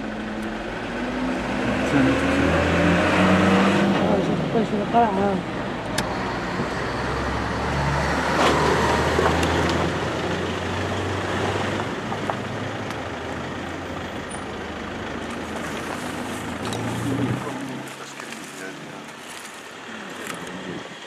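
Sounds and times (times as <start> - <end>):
road noise: 0.0 - 21.0
vehicle engine humming: 0.0 - 21.0.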